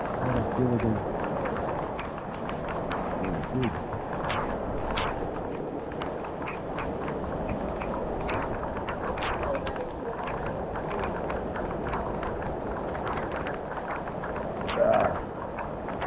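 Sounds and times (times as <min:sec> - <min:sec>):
raindrops tapping and splashing: 0:00.0 - 0:16.0.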